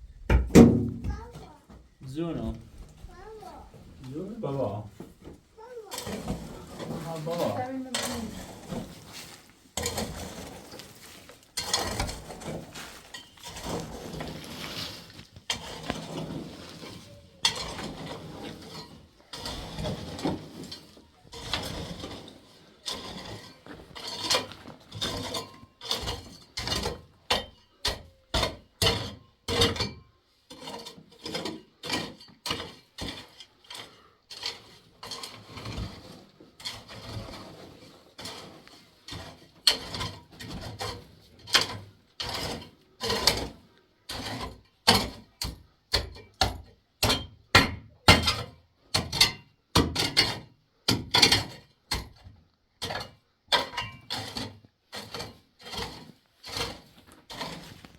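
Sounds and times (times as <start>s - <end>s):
sharp knocks or scrapes: 2.4s - 57.9s.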